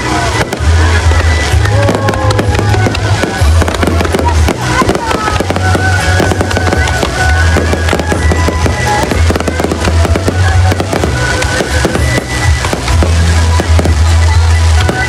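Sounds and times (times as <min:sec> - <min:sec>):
fireworks bangs and crackles: 0:00.0 - 0:15.0
loud music with heavy bass: 0:00.0 - 0:15.0.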